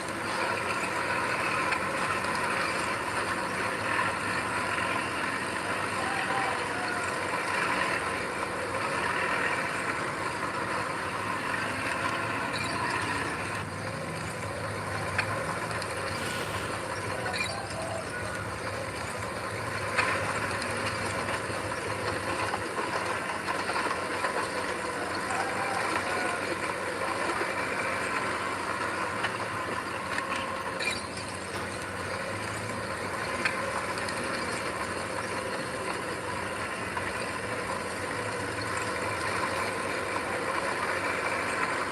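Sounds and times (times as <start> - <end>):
diesel earthmoving machinery running: 0.0 - 41.9.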